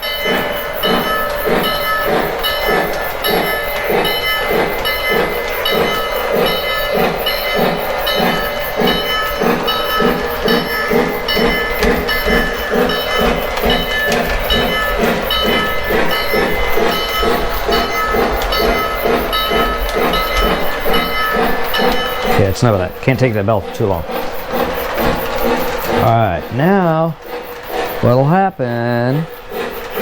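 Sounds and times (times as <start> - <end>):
locomotive bell ringing: 0.0 - 30.0
model train running sounds: 0.0 - 30.0.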